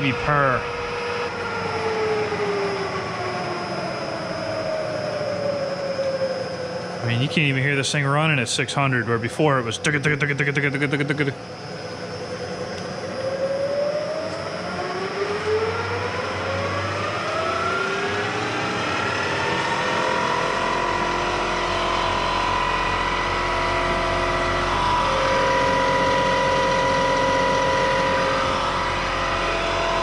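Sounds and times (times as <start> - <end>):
milling machine whine: 0.0 - 30.0.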